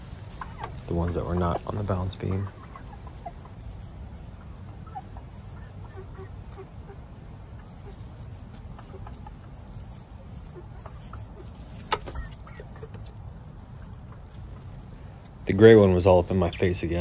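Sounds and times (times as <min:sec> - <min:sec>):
hens clucking softly: 0:00.1 - 0:17.0.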